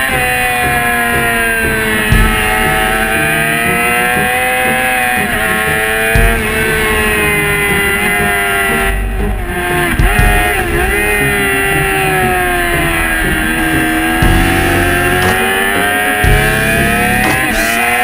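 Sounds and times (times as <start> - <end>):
race motorcycle engine at high revs: 0.0 - 18.0.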